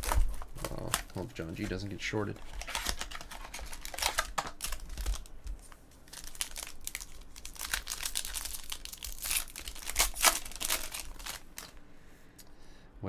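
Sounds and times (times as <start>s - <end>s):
wrapper being torn and crinkled: 0.0s - 11.8s.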